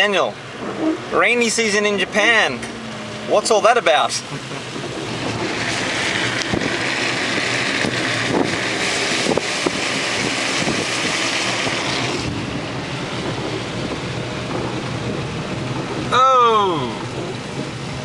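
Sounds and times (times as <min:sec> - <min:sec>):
tyres hissing on wet road: 0:00.3 - 0:18.0
rushing wind: 0:00.4 - 0:18.0.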